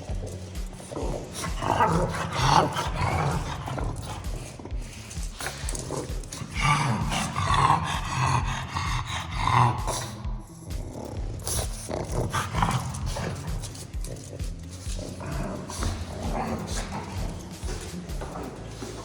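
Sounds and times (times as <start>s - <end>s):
dog snoring: 0.0s - 19.0s.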